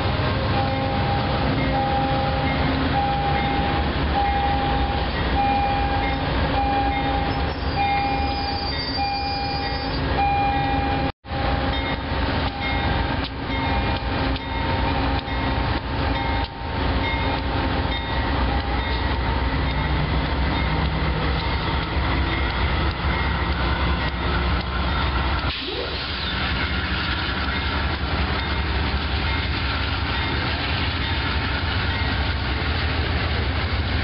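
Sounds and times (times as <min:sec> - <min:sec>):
locomotive engines rumbling: 0:00.0 - 0:34.0
train rolling past: 0:00.0 - 0:34.0.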